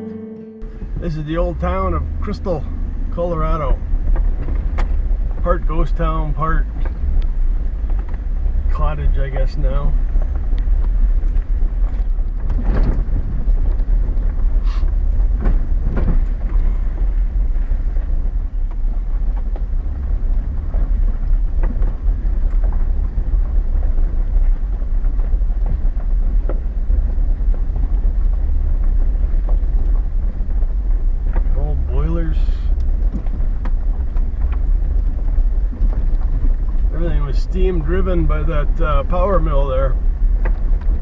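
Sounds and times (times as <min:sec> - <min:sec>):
engine and tyres rumbling: 0:00.0 - 0:41.0
truck knocks and rattles: 0:00.7 - 0:41.0.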